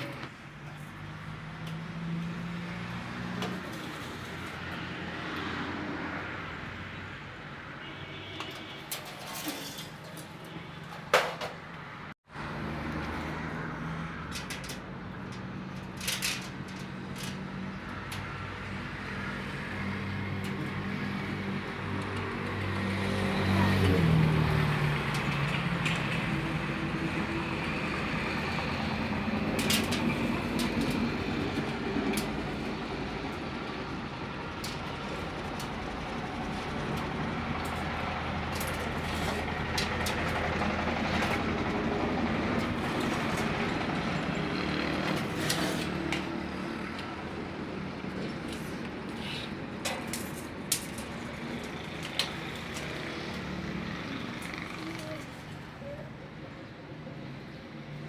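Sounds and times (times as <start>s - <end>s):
street traffic: 0.0s - 58.0s.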